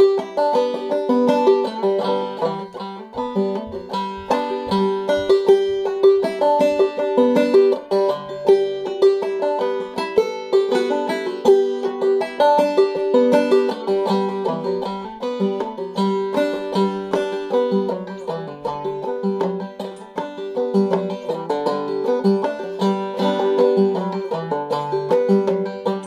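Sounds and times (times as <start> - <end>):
banjo playing a reel: 0.0 - 26.0.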